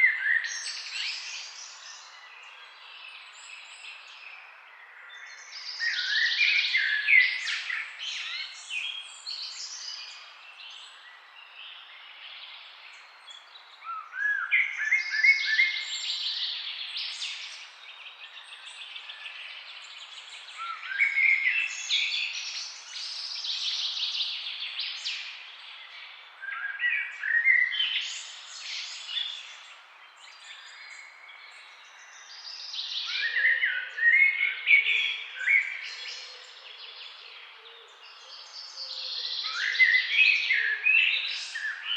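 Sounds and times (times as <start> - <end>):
songbirds chirping and singing: 0.0 - 41.9.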